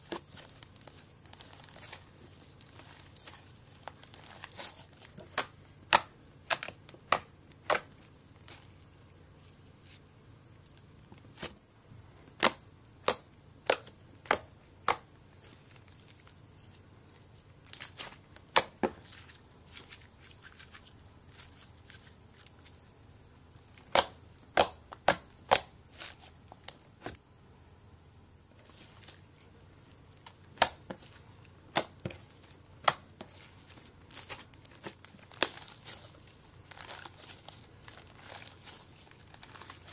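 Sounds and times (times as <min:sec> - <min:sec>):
soft squishing of slime: 0:00.0 - 0:27.2, 0:28.5 - 0:39.9.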